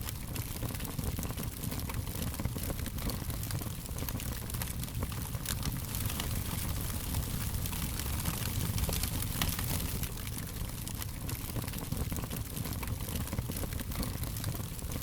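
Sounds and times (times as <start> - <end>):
low rumble of flames: 0.0 - 15.0
wood fire popping and crackling: 0.0 - 15.0.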